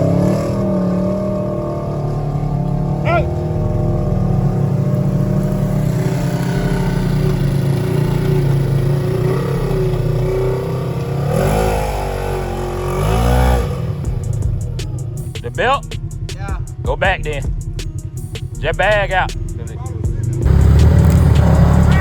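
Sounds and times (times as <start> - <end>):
utv engine revving: 0.0 - 22.0.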